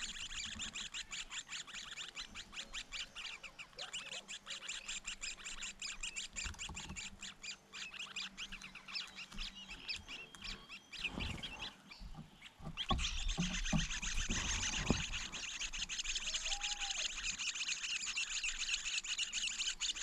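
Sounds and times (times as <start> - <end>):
nestlings begging calls: 0.0 - 20.0.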